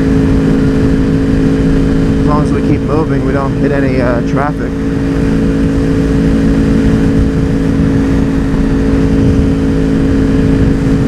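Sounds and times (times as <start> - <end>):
motorcycle engine cruising: 0.0 - 11.0
wind noise: 0.0 - 11.0.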